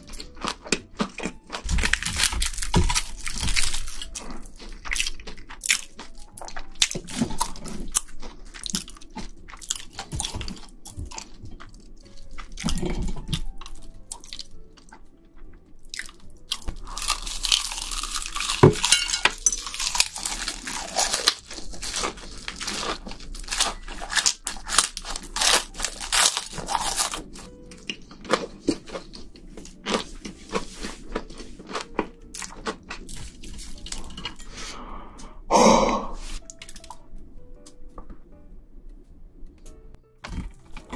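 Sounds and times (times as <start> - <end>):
crunching and chewing: 0.0 - 34.6, 40.2 - 40.9.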